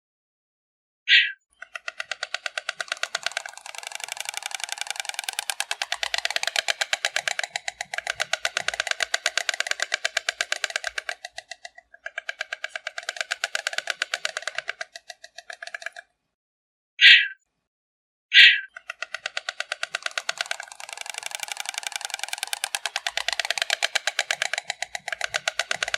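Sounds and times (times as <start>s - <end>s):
stork clattering its bill: 1.5s - 16.1s, 18.7s - 25.9s.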